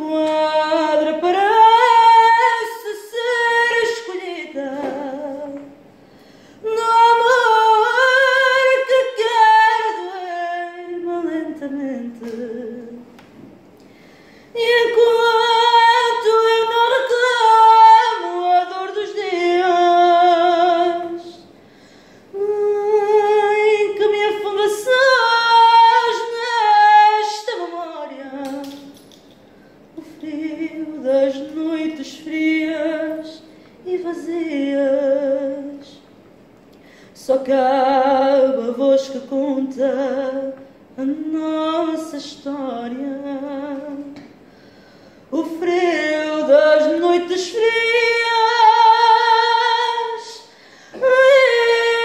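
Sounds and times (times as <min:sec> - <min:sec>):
woman singing unaccompanied: 0:00.0 - 0:05.8, 0:06.6 - 0:13.2, 0:14.5 - 0:21.5, 0:22.3 - 0:29.2, 0:30.0 - 0:36.1, 0:37.2 - 0:44.3, 0:45.3 - 0:52.0.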